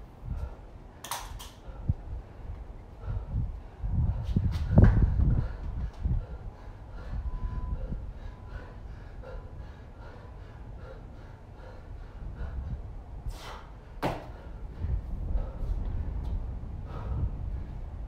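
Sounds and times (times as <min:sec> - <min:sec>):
heavy rhythmic breathing: 0:00.0 - 0:18.0
low rumbling noise: 0:01.6 - 0:18.0.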